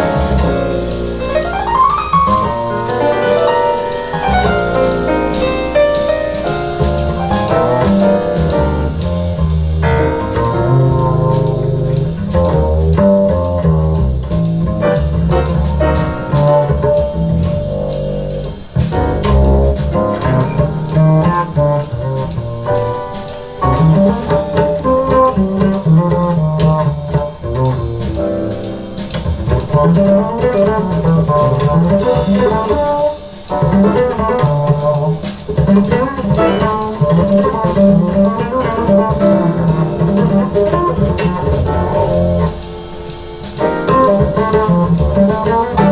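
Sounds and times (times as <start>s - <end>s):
double bass line: 0.0s - 45.9s
jazz through loudspeakers: 0.0s - 45.9s.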